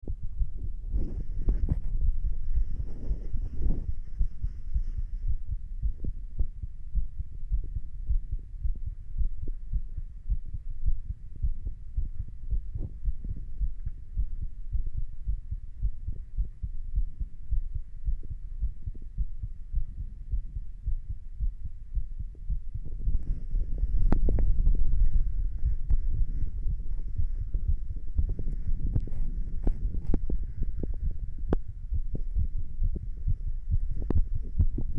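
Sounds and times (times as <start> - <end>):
heartbeat thumps: 0.0 - 34.9
low hum: 0.0 - 34.9.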